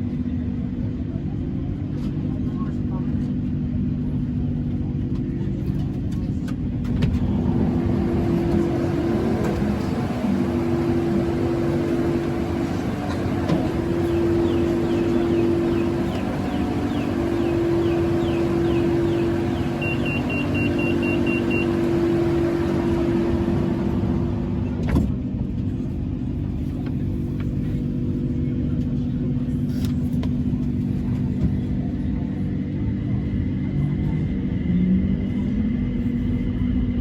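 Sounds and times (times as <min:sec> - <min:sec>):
electric train rumbling: 0:00.0 - 0:37.0.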